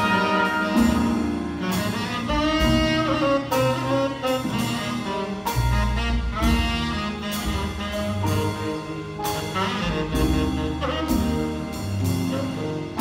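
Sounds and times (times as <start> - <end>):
jazz big band playing: 0.0 - 13.0.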